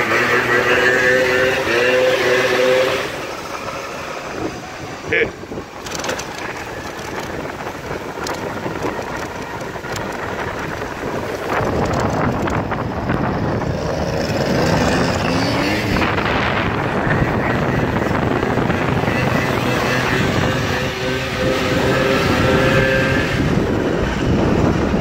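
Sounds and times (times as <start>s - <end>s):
moped motor drone: 0.0s - 25.0s
road noise: 0.0s - 25.0s
wind buffeting microphone: 0.0s - 25.0s.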